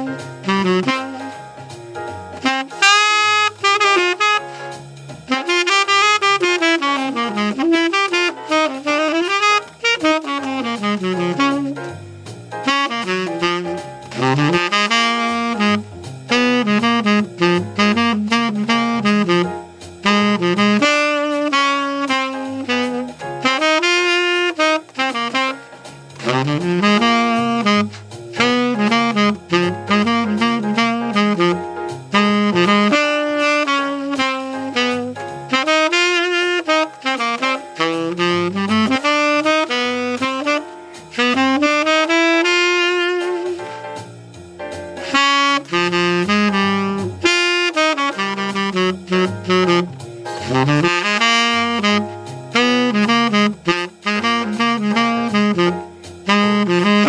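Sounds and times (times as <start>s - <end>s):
tenor saxophone jazz solo: 0.0s - 57.0s.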